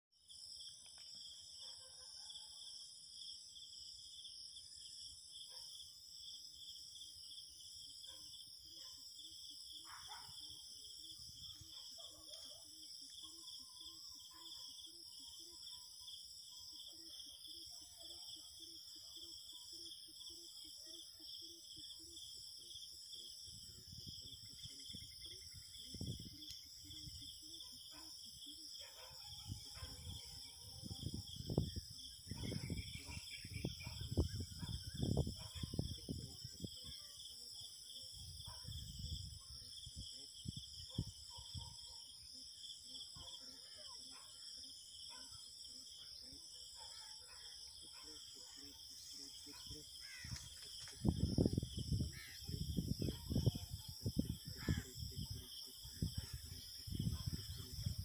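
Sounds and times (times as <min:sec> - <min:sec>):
insects trilling: 0:00.2 - 0:58.0.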